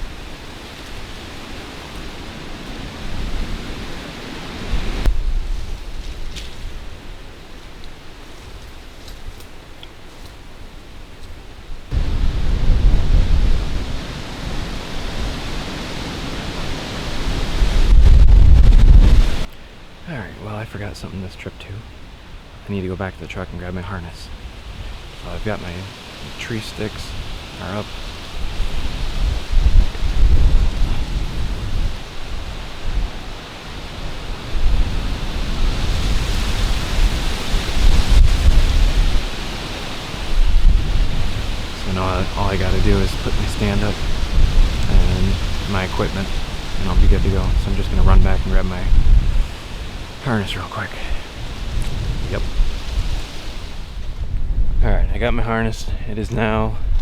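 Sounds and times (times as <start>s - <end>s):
strong wind buffeting microphone: 0.0s - 9.8s, 10.5s - 19.5s, 24.0s - 57.0s.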